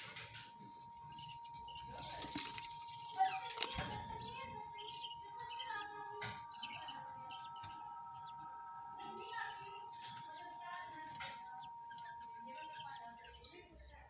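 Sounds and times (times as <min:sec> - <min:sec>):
parrots chirping and chattering: 0:00.0 - 0:14.0
thin steady tone: 0:00.0 - 0:14.0.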